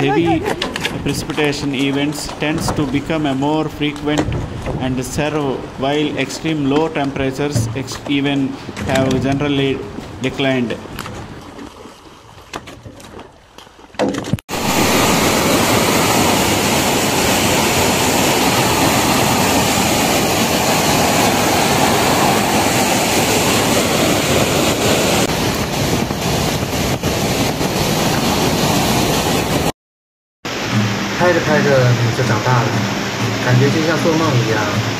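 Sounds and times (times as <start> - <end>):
floodwater torrent rushing: 0.0 - 12.2, 14.5 - 29.7, 30.5 - 34.9.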